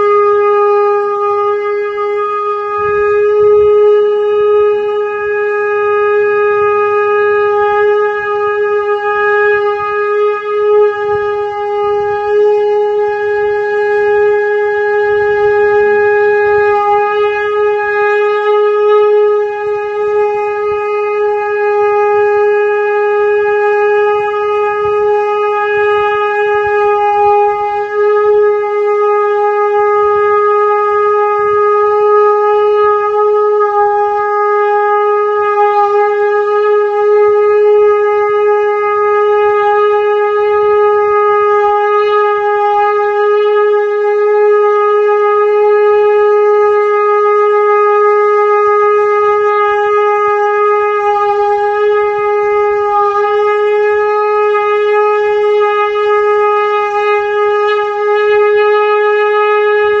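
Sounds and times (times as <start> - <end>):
conch-shell trumpet note: 0.0 - 60.0.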